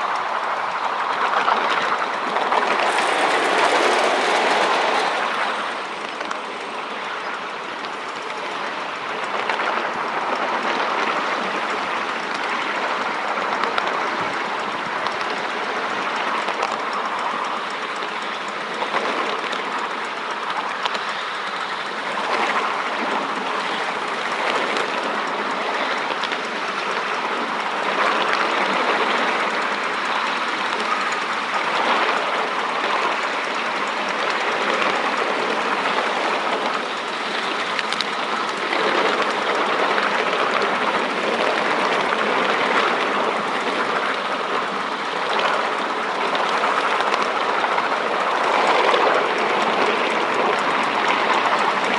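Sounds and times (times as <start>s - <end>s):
clicks over rail joints: 0.0s - 51.9s
train wheels rattling on rails: 0.0s - 51.9s.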